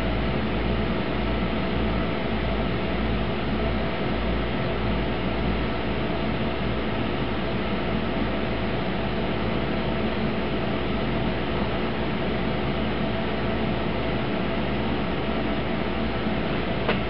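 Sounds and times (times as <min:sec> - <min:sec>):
aquarium pump humming and hissing: 0:00.0 - 0:17.0.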